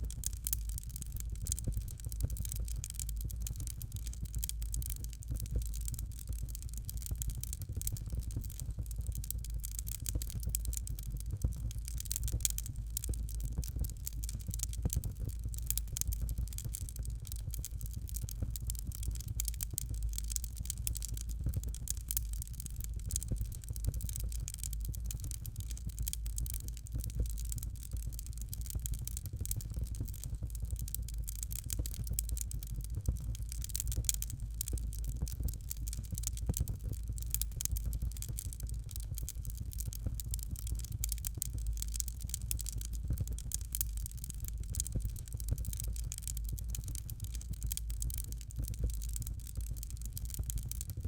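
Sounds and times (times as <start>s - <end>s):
fire crackling: 0.0s - 51.0s.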